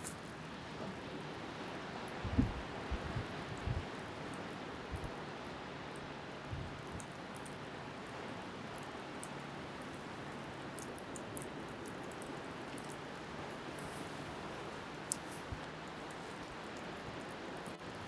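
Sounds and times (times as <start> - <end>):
wind: 0.0 - 18.0
bonfire crackling and popping: 2.4 - 18.0.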